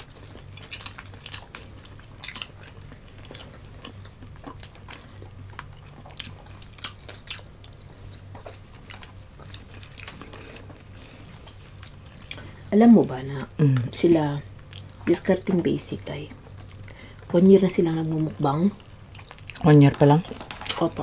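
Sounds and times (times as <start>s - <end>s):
people chewing food: 0.0s - 21.0s.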